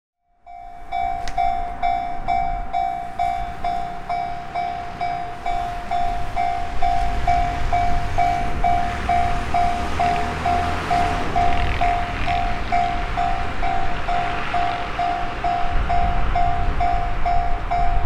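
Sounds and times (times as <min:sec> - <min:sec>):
level crossing bell ringing: 0:00.4 - 0:18.0.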